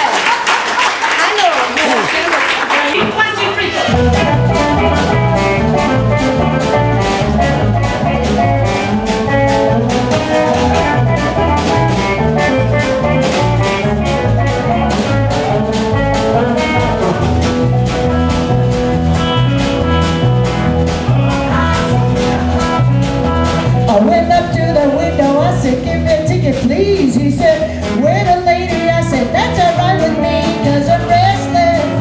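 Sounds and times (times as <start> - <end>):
drum kit beat: 1.8 - 32.0
guitar: 3.0 - 32.0
bass line: 3.9 - 32.0.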